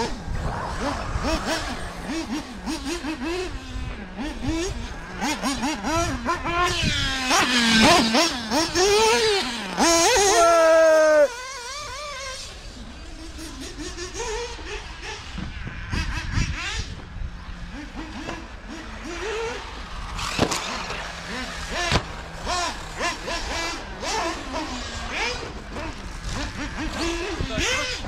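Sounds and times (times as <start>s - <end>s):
model car engine revving: 0.0s - 28.0s.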